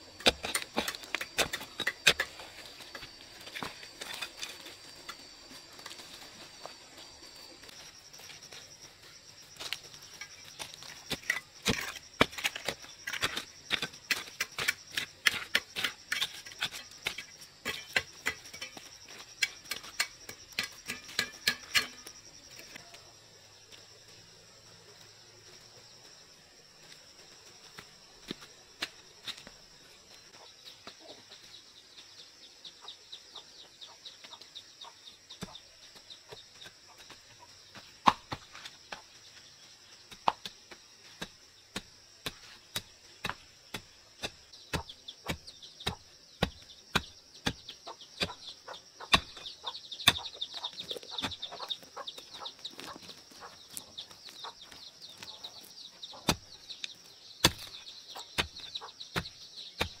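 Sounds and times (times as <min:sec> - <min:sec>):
high insect drone: 0:00.0 - 1:00.0.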